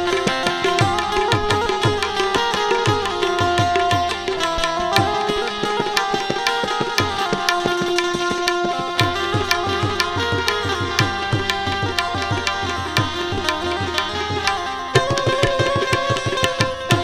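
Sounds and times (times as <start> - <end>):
sustained harmonium notes: 0.0 - 17.0
tabla playing brisk rhythm: 0.0 - 17.0.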